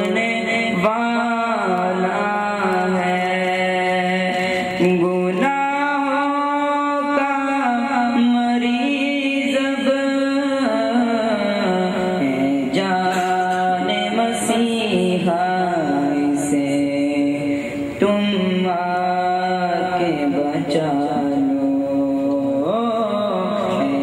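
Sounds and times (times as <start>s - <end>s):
man singing devotional song: 0.0s - 24.0s.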